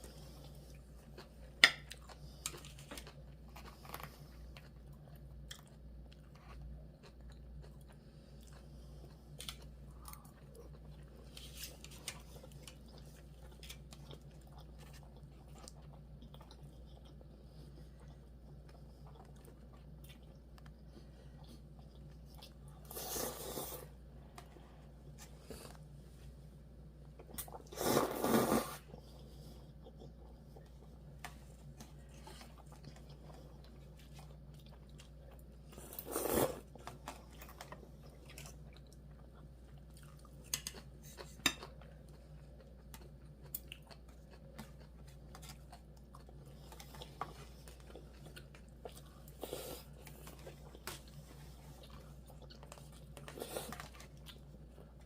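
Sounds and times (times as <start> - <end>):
person chewing food: 0.0 - 26.0, 27.0 - 55.0
low steady hum: 0.0 - 55.0.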